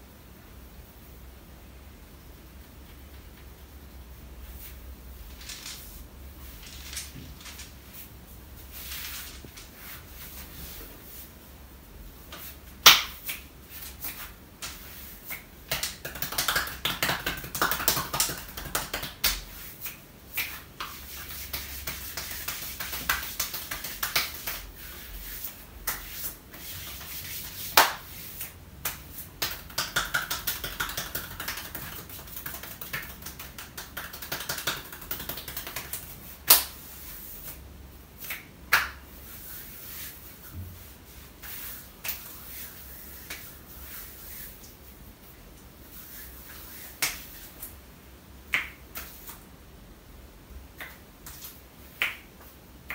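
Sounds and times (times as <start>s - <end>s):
hands rubbing skin: 4.5s - 11.4s, 12.3s - 37.6s, 38.2s - 47.8s, 48.5s - 49.4s.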